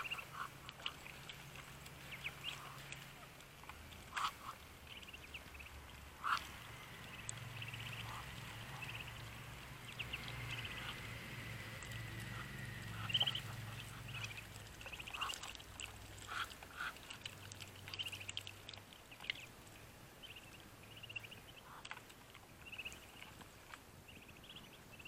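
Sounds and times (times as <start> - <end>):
ducklings peeping: 0.0 - 25.0
faint low hum: 0.0 - 25.0.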